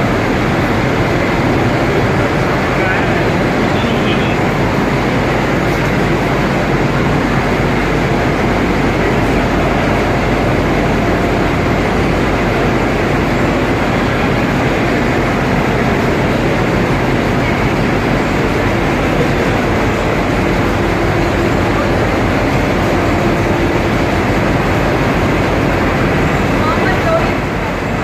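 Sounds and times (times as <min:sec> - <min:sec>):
moving vehicle rumbling: 0:00.0 - 0:28.0.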